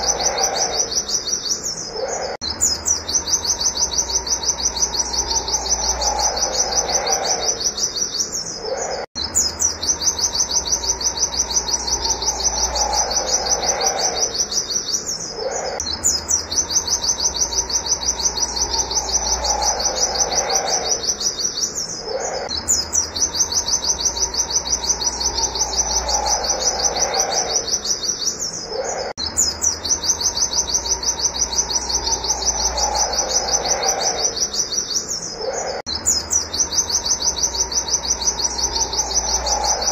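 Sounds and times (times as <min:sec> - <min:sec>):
bird singing high wit notes: 0:00.0 - 0:39.9.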